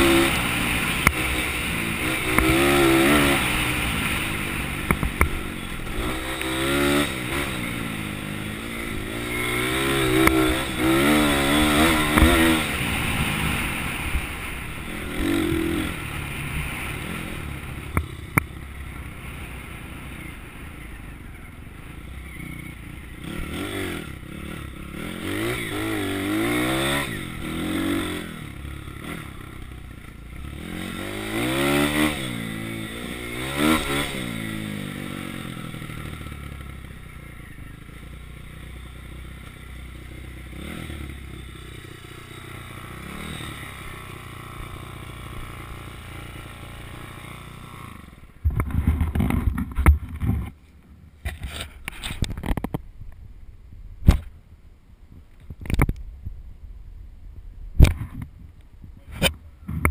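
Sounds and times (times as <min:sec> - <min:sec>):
small motorbike engine revving: 0:00.0 - 0:18.9, 0:19.5 - 0:50.4.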